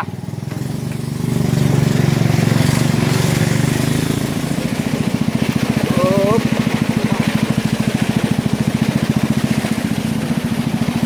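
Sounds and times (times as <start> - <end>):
boat motor puttering: 0.0 - 11.0
water rushing past hull: 0.0 - 11.0.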